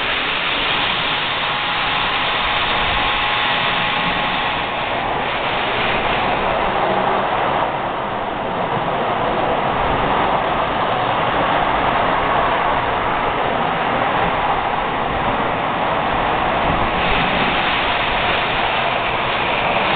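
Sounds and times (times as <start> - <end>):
model trains rolling on track: 0.0 - 19.9.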